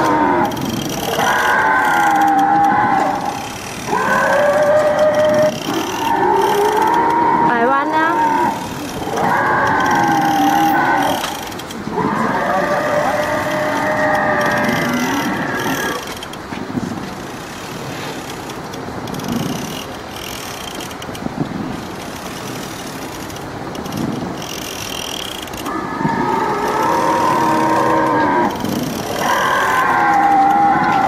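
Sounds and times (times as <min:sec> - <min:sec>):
toy ride mechanism running: 0:00.0 - 0:31.0.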